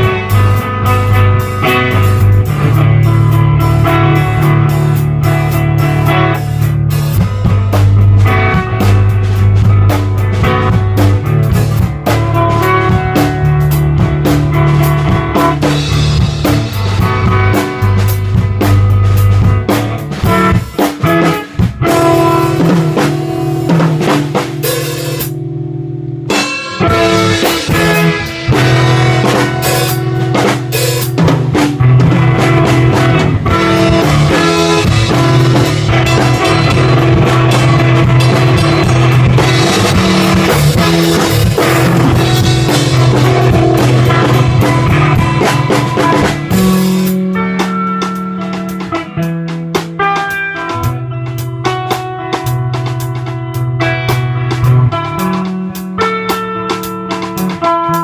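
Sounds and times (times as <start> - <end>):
drum kit playing: 0.0 - 58.0
electric guitar playing: 0.0 - 58.0.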